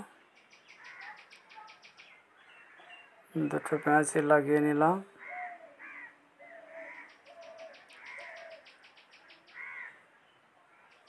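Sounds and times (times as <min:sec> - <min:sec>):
faint bird calls: 0:00.0 - 0:04.1, 0:05.1 - 0:11.0.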